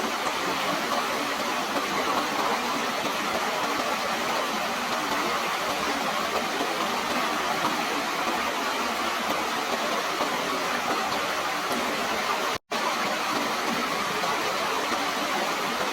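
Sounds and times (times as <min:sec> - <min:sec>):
water rushing: 0:00.0 - 0:15.9.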